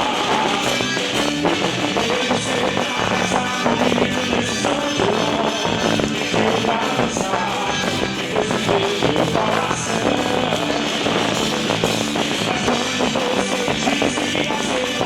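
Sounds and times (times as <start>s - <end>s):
band music with steady beat: 0.0s - 15.0s.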